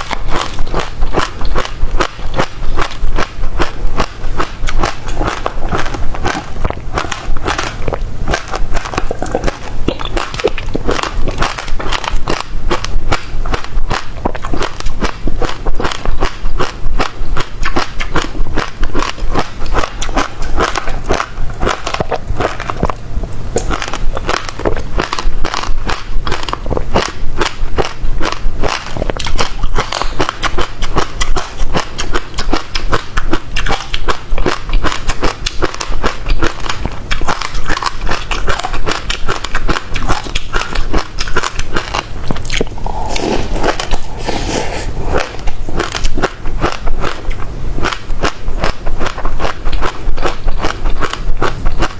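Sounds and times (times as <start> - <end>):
wet chewing and seed crunching: 0.0 - 51.9.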